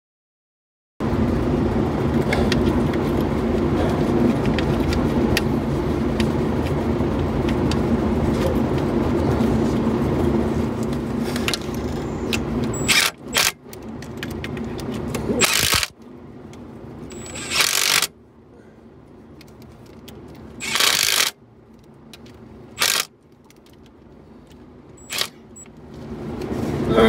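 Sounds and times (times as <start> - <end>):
engine running: 1.0 - 27.0.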